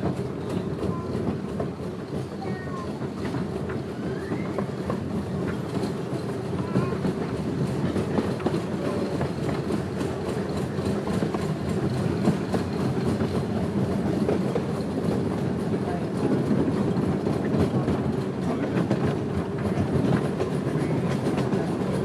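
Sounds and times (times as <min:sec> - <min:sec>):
train cars rumbling: 0:00.0 - 0:22.0
wheels clickety-clack: 0:00.0 - 0:22.0.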